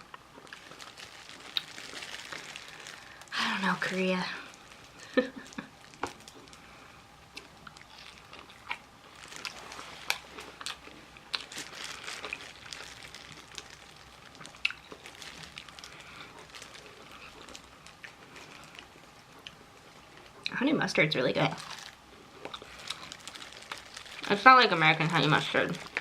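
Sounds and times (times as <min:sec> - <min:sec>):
crunchy chewing of fried chicken: 0:00.0 - 0:03.3, 0:04.0 - 0:20.4, 0:21.5 - 0:24.4, 0:25.4 - 0:26.0.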